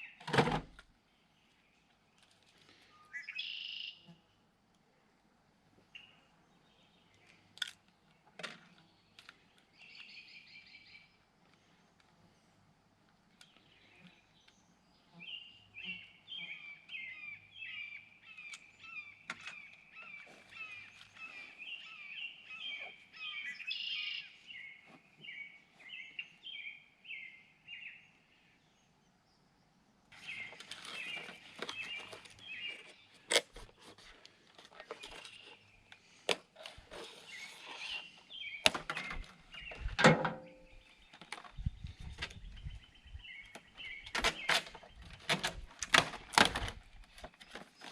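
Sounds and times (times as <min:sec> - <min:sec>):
birds chirping: 0:01.1 - 0:04.2, 0:05.8 - 0:12.6, 0:13.3 - 0:47.9.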